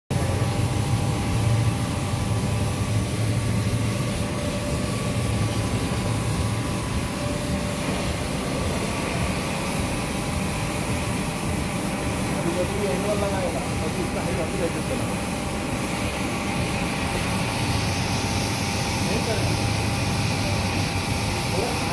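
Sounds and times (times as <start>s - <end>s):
machinery low hum: 0.1s - 21.9s
faint machine whining tones: 0.2s - 21.9s.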